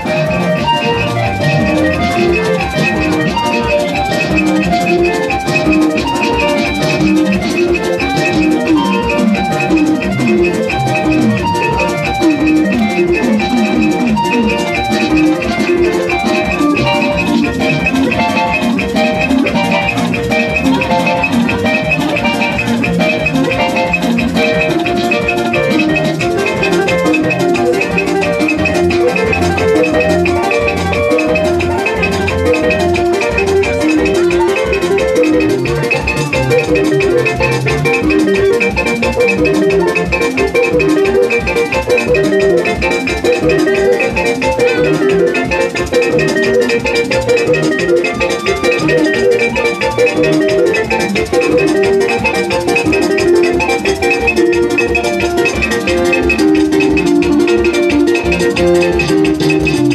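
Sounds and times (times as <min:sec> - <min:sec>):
loud music with fast drum beat: 0:00.0 - 0:59.9.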